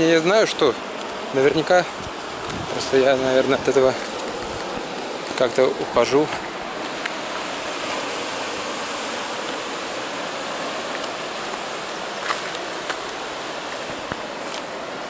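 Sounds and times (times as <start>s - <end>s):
ocean surf breaking on rocks: 0.0s - 15.0s.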